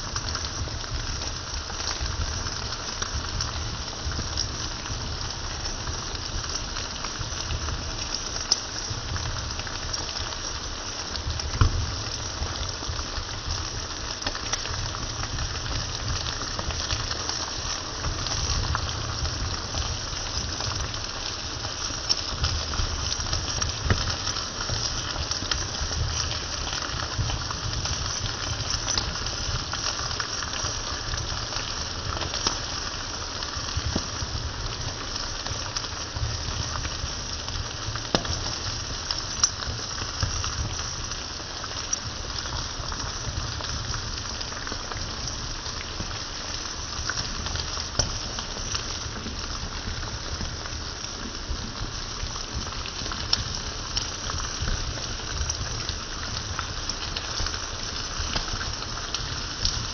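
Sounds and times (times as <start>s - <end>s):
food sizzling in a skillet: 0.0s - 59.9s.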